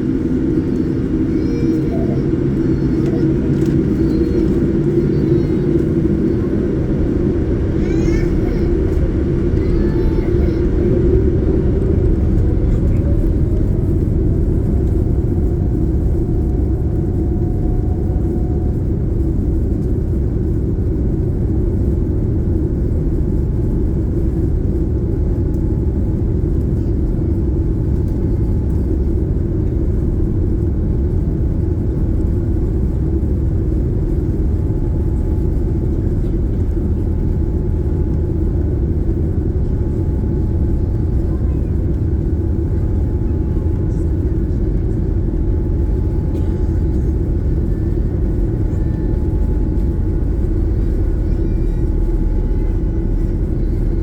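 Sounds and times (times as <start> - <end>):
airliner engines rumbling: 0.0 - 54.0.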